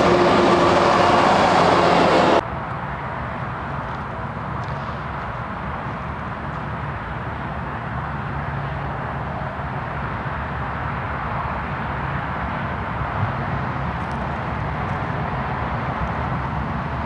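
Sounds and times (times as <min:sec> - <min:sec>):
distant diesel locomotive rumble: 0:00.0 - 0:17.0.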